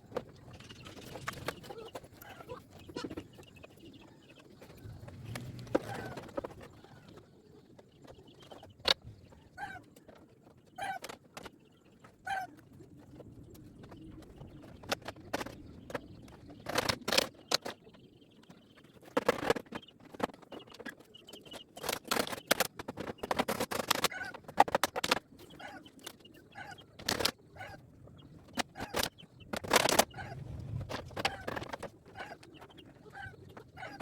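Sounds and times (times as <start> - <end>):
faint bird chirps: 0.5 - 23.4, 25.4 - 30.5.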